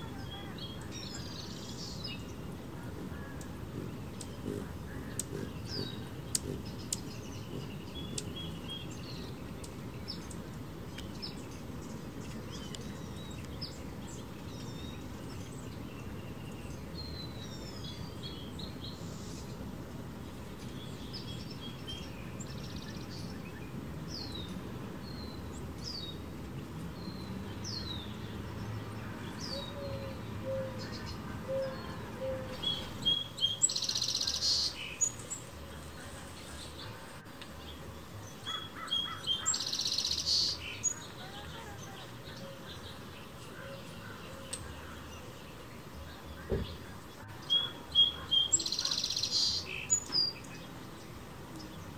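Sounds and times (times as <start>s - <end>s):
bird song: 0.0s - 51.9s
songbirds chirping: 0.0s - 51.9s.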